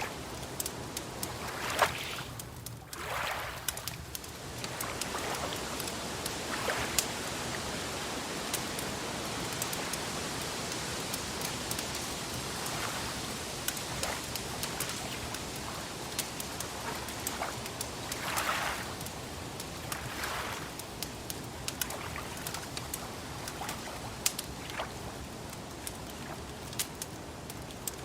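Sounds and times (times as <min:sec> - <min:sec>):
steady hiss: 0:00.0 - 0:28.0
wood fire crackling and popping: 0:00.0 - 0:28.0.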